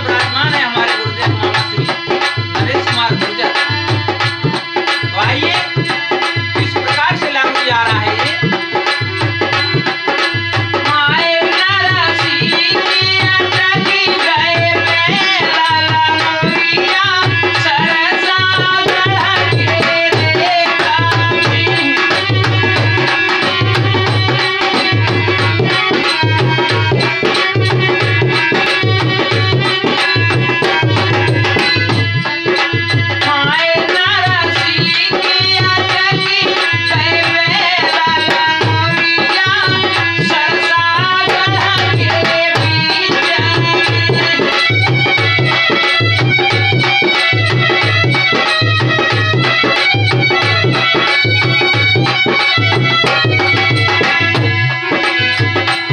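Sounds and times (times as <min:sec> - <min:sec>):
man singing: 0:00.0 - 0:47.8
dholak drum beat: 0:00.0 - 0:55.9
harmonium chords: 0:00.0 - 0:55.9.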